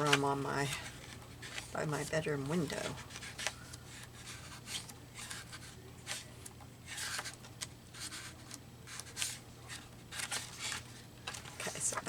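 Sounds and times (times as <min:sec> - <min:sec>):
book pages turning: 0:00.0 - 0:12.0
faint low hum: 0:00.0 - 0:12.0.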